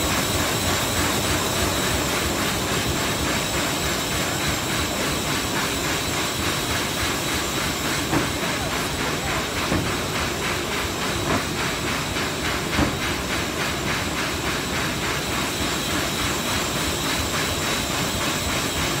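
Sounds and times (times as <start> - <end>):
laminating machine running: 0.0 - 19.0.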